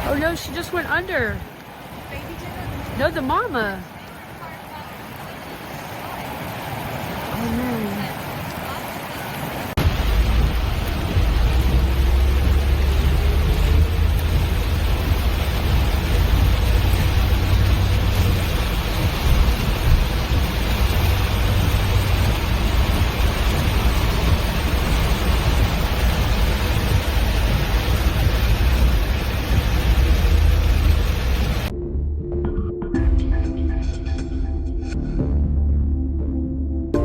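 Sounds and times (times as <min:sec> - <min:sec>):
river water rushing: 0:00.0 - 0:31.7.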